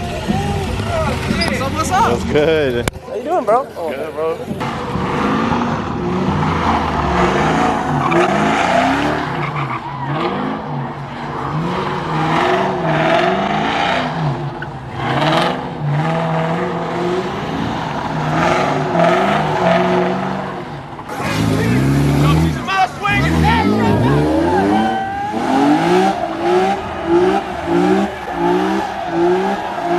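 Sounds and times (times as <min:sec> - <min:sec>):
car engine revving: 0:00.0 - 0:03.0, 0:04.0 - 0:29.9.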